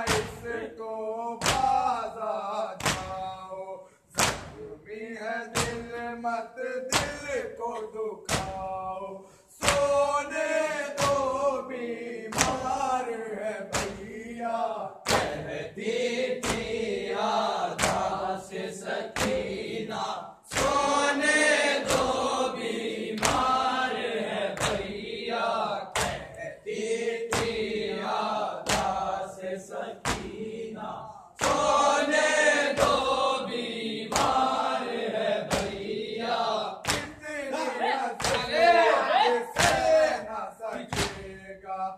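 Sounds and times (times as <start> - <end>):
men chanting in unison: 0.0 - 41.9.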